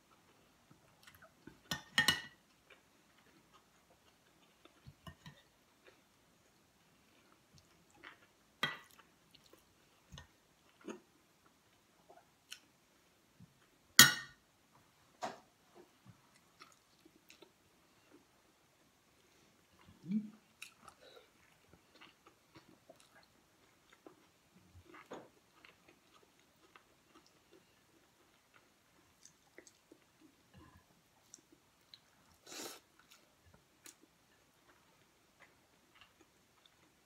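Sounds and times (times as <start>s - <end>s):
quiet chewing: 2.5s - 12.7s, 15.8s - 37.0s.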